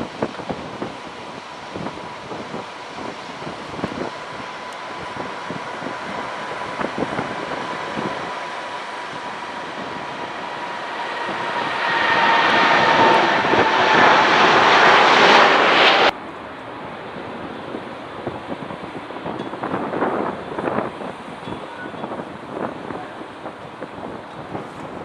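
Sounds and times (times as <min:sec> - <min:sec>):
jet airliner passing: 0:00.0 - 0:21.4
wind buffeting microphone: 0:00.0 - 0:25.0.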